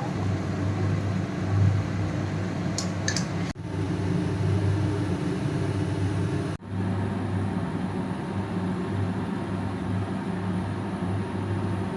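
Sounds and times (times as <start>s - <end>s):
low mechanical hum: 0.0s - 11.9s.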